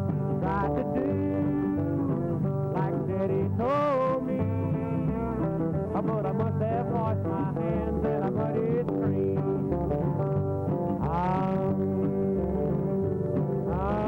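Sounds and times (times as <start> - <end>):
man singing: 0.0 - 10.2, 11.0 - 14.0
bouncing bass line: 0.0 - 14.0
strummed acoustic guitar: 0.0 - 14.0.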